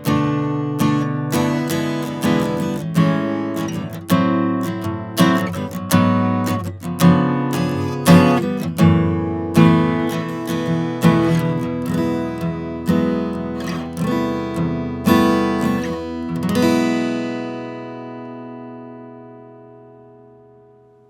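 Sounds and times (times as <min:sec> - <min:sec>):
acoustic guitar notes and chords: 0:00.0 - 0:21.0.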